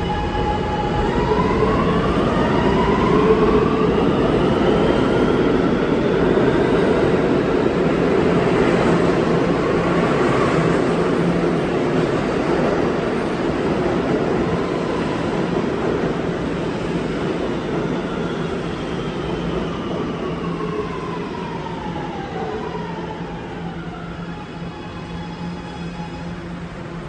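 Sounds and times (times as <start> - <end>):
subway train wheels rumbling on rails: 0.0 - 27.0.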